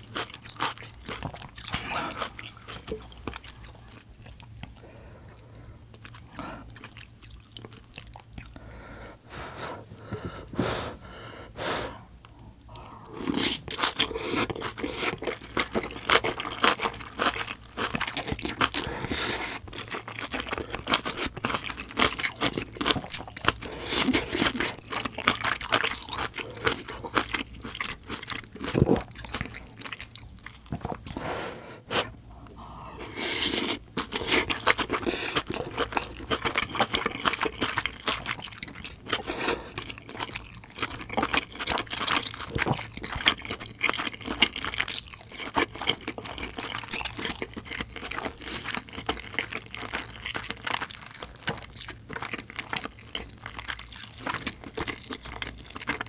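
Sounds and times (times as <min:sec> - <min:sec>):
chewing and crunching: 0:00.0 - 0:08.9, 0:12.2 - 0:31.3, 0:32.0 - 0:56.0.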